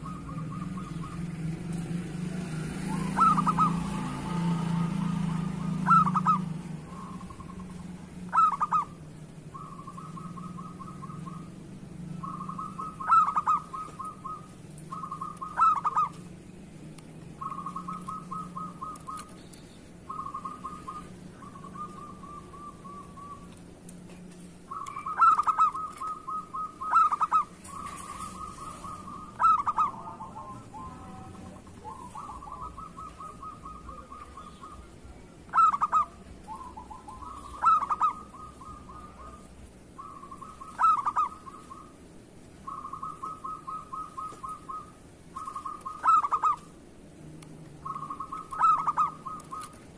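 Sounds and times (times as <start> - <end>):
dove cooing: 0.0 - 16.5, 17.2 - 49.9.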